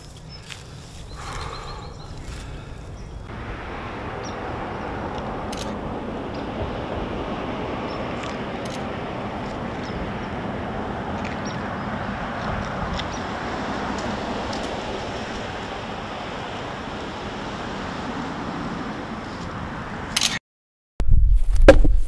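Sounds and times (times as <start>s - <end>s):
outdoor background rumble: 0.0s - 20.4s.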